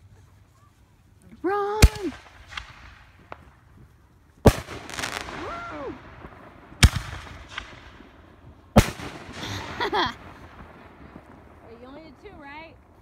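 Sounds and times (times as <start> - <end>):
fireworks hissing and crackling: 0.0 - 13.0
fireworks bangs: 1.8 - 13.0.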